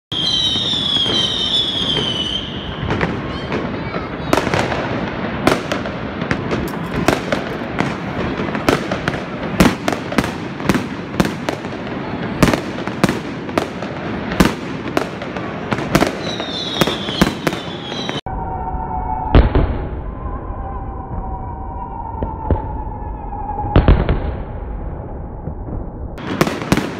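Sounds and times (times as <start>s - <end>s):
fireworks whistles: 0.1s - 24.5s
fireworks bangs: 0.1s - 26.9s
fireworks crackle and rumble: 0.1s - 26.9s.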